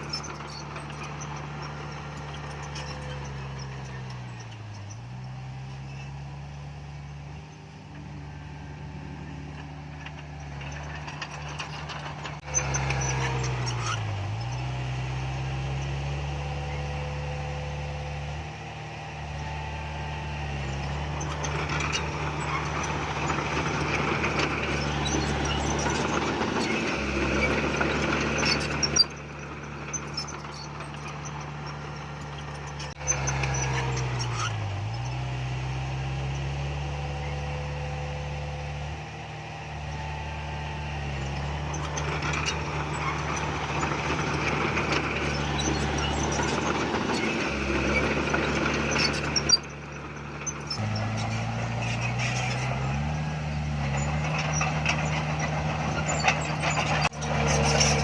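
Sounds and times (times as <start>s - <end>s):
bulldozer diesel engine: 0.0s - 58.0s
metal clanking and squeaking: 0.0s - 58.0s.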